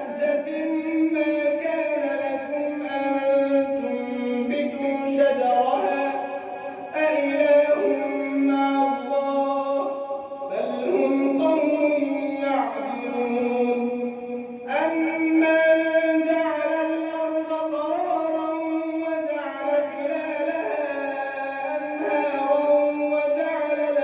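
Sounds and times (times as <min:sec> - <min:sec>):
person chanting melodically: 0:00.0 - 0:24.0.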